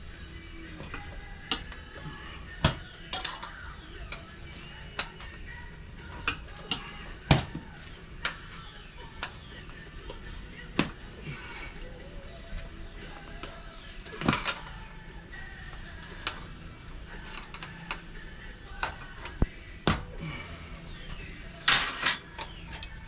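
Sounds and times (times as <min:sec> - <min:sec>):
faint rock music: 0:00.0 - 0:23.0.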